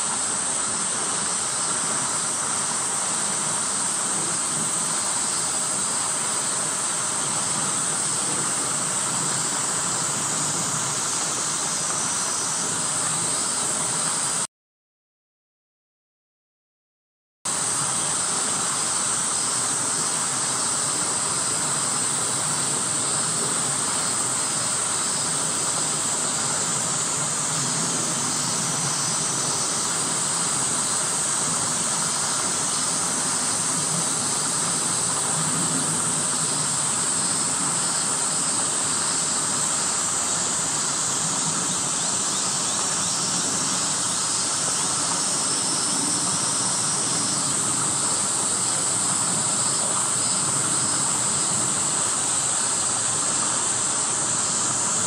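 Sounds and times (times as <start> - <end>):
cicada chorus: 0.0 - 14.4, 17.5 - 55.0.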